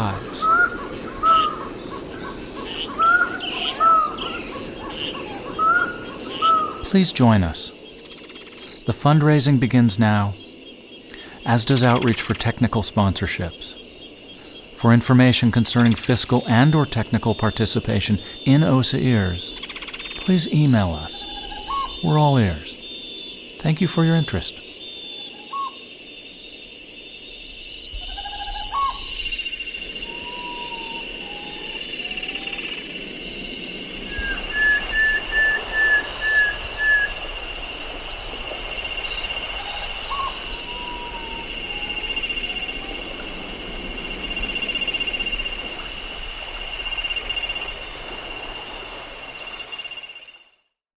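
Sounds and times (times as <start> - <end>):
high insect drone: 0.0 - 50.6.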